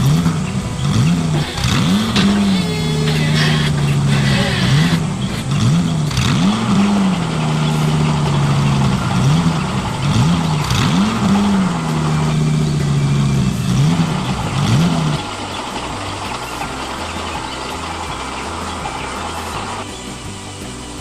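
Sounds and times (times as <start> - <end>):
toy vehicle engine revving: 0.0 - 21.0.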